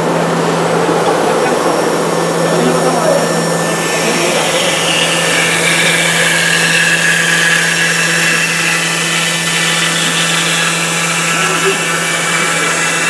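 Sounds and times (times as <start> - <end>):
cnc router milling: 0.0 - 13.0.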